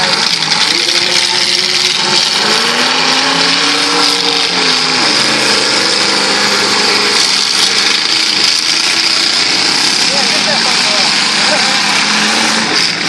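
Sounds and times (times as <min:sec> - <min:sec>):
car engines running loud: 0:00.0 - 0:13.0
engine revving: 0:00.0 - 0:13.0.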